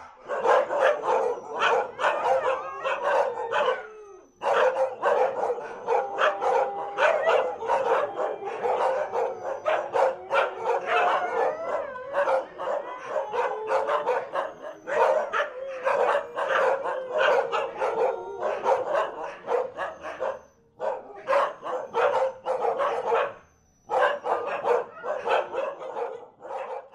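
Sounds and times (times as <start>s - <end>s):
dogs barking excitedly: 0.0s - 26.9s
dogs howling: 0.2s - 26.9s.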